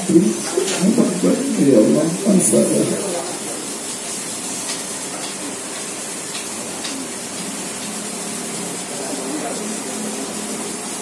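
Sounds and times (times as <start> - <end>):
steady hiss: 0.0 - 10.9.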